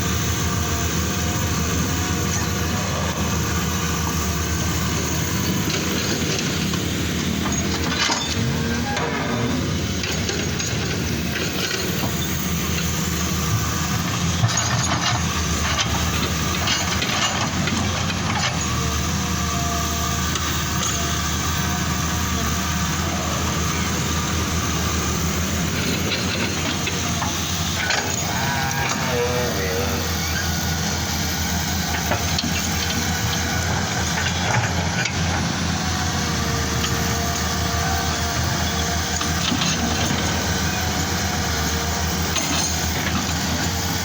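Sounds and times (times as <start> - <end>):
large diesel engine running: 0.0 - 44.0.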